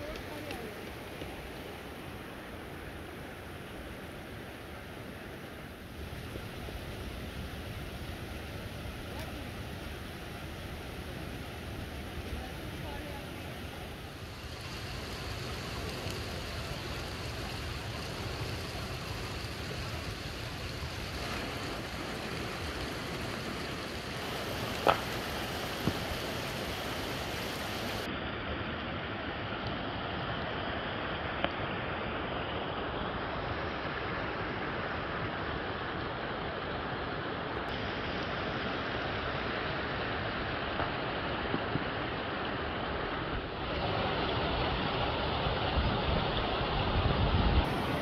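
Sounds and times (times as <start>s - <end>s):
steady rushing noise: 0.0s - 48.0s.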